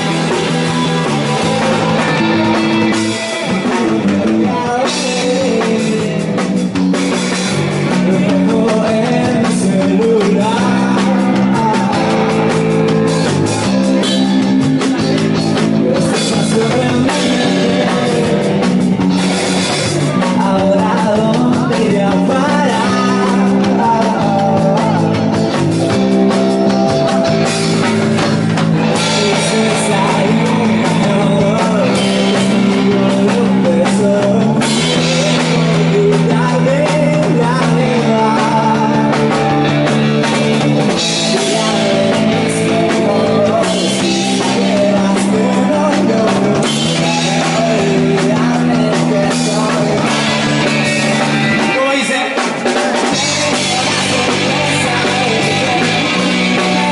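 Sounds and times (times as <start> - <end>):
person singing: 0.0 - 56.9
rock band playing live: 0.0 - 56.9.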